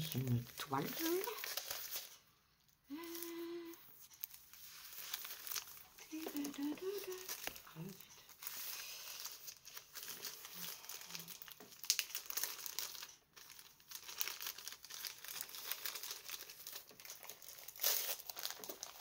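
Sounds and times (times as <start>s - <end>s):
plastic packaging crinkling: 0.0s - 2.3s, 4.1s - 19.0s.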